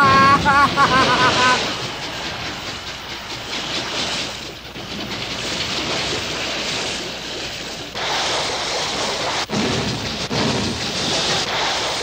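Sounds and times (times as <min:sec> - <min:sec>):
churning water and steam rushing: 0:00.0 - 0:12.0.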